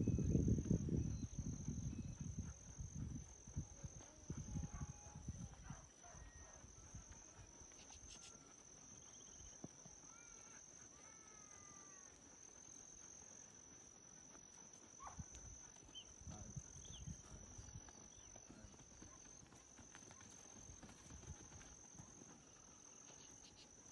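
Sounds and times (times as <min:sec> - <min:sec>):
high insect drone: 0:00.0 - 0:23.9.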